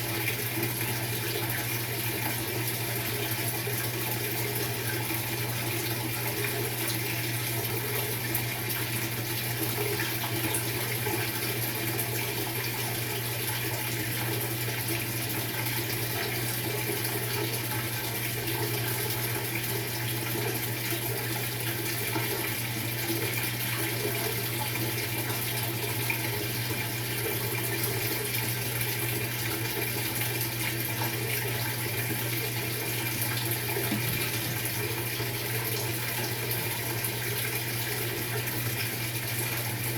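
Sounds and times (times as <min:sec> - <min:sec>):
water running in washing machine: 0:00.0 - 0:39.9.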